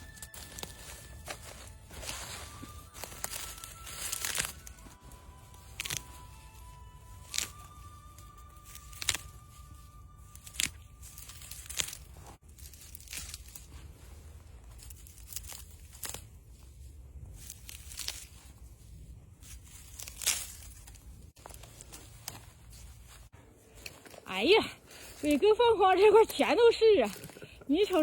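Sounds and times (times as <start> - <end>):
plants rustling: 0.0 - 28.0.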